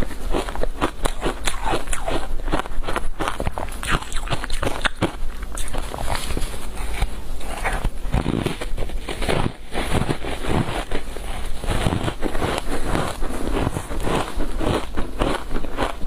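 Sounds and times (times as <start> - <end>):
crunching ice while chewing: 0.0 - 16.0.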